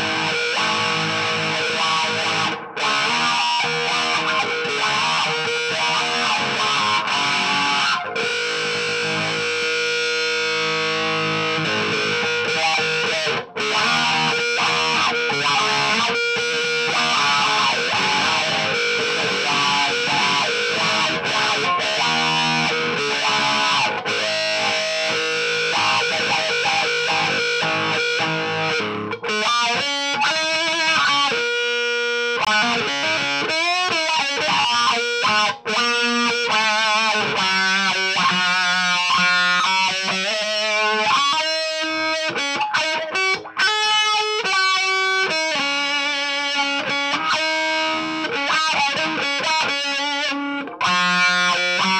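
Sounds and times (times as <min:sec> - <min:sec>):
distorted electric guitar: 0:00.0 - 0:51.9.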